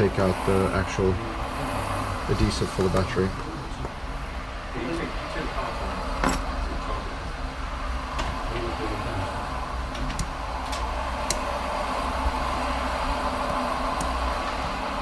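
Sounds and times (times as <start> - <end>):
motorway traffic rumble: 0.0 - 15.0.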